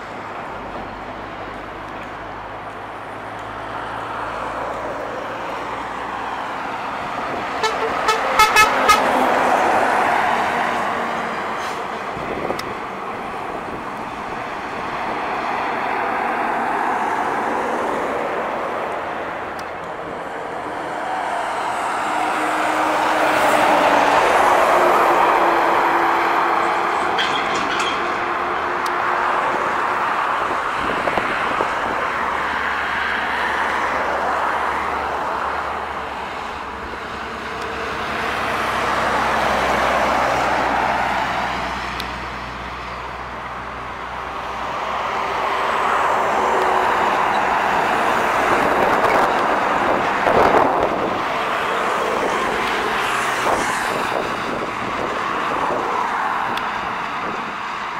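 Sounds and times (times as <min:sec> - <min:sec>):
low hum of diesel engines: 0:00.0 - 0:57.9
traffic tyre and engine roar: 0:00.0 - 0:57.9.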